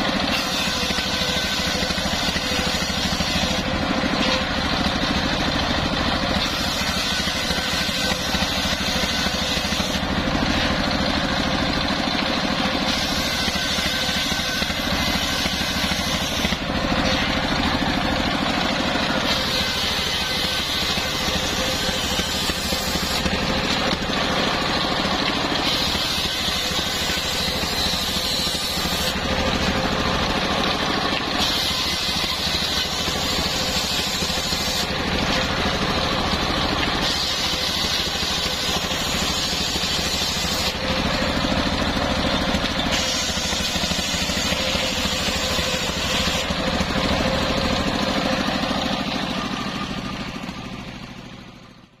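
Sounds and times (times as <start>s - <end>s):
circular saw cutting wood: 0.0s - 50.8s
diesel engine running: 0.0s - 52.0s.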